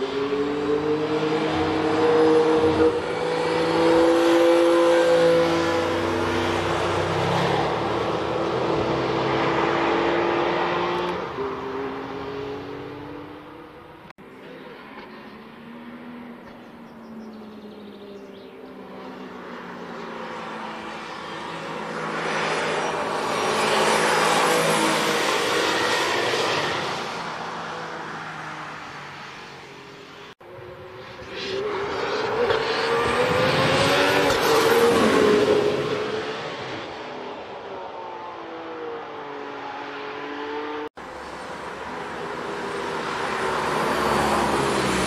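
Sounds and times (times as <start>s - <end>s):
race car passing by: 0.0s - 45.0s.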